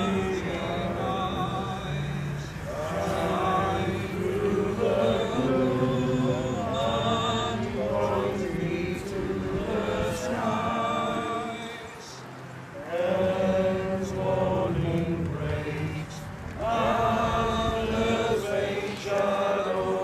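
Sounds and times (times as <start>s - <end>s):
crowd singing a hymn: 0.0s - 20.0s.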